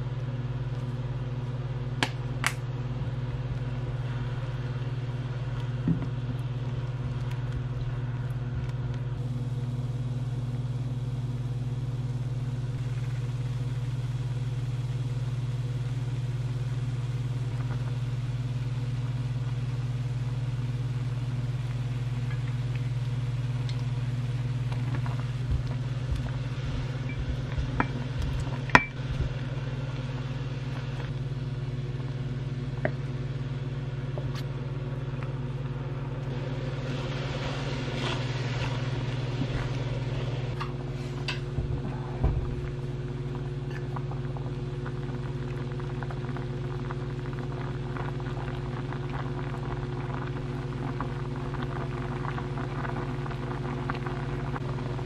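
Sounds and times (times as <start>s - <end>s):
liquid bubbling in a pot: 0.0s - 55.0s
low hum: 0.0s - 55.0s.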